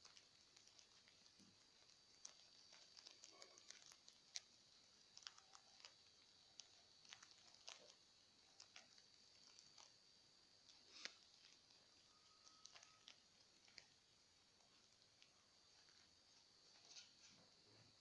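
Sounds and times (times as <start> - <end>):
rabbits crunching a leaf: 0.0 - 17.4
faint high whine: 0.0 - 18.0.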